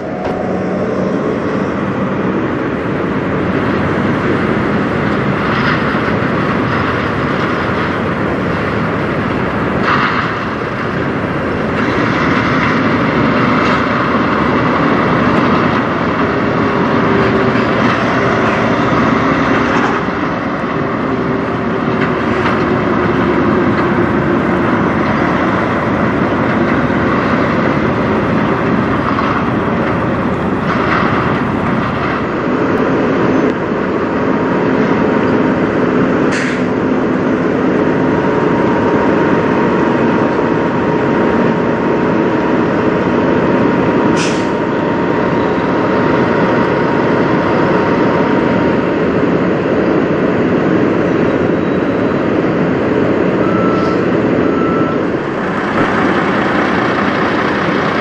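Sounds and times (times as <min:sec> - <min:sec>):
other truck engines: 0:00.0 - 0:58.0
truck engine at low revs: 0:00.0 - 0:58.0.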